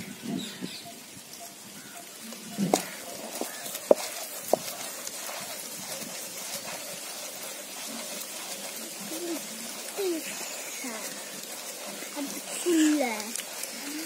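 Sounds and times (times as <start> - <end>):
stone grinder grinding lentils: 2.7 - 14.0.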